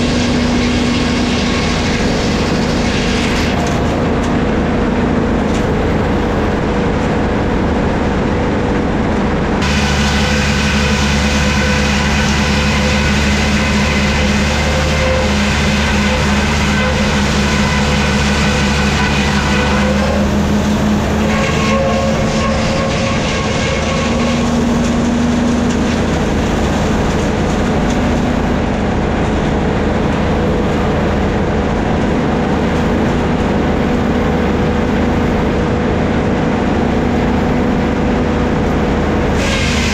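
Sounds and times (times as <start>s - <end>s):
saw blade whine: 0.0s - 8.0s, 9.6s - 28.8s, 30.0s - 39.9s
sawmill machinery running: 0.0s - 39.9s.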